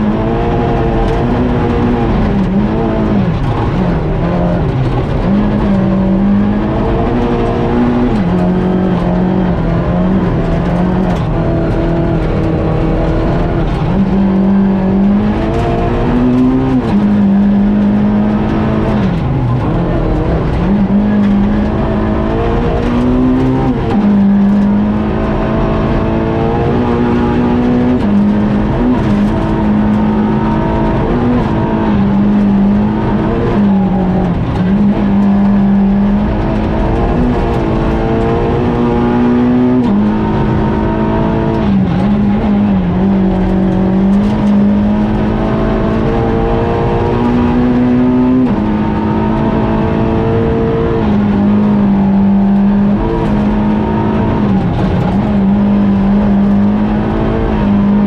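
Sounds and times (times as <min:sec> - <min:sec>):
gravel and road noise: 0:00.0 - 0:58.0
rally car engine at high revs: 0:00.0 - 0:58.0.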